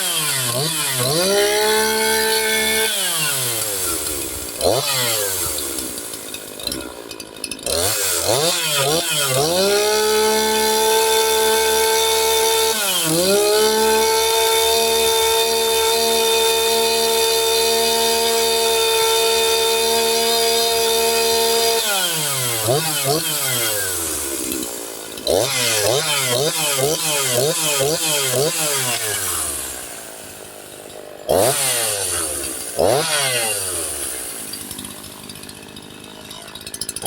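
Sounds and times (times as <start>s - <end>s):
chainsaw revving: 0.0s - 37.0s.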